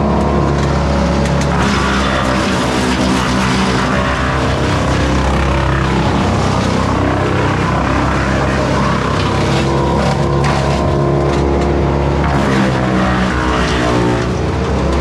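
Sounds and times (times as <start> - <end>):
wood chipper engine drone: 0.0 - 15.0.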